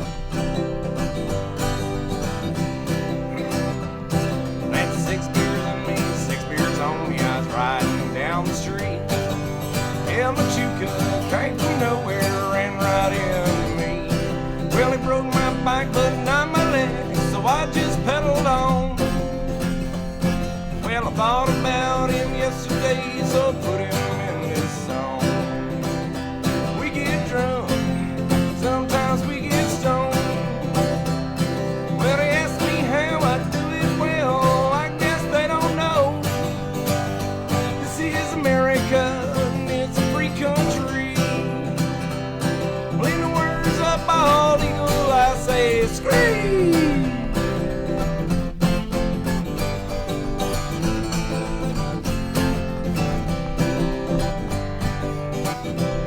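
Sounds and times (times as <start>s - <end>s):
country song on acoustic guitar: 0.0s - 56.0s.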